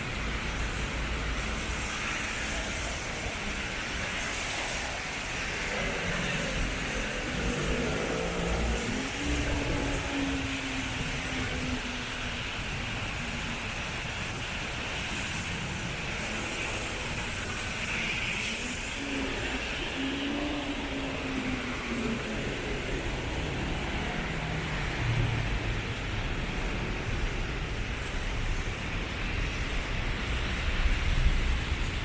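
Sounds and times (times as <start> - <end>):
vehicles passing on wet road: 0.0 - 32.0.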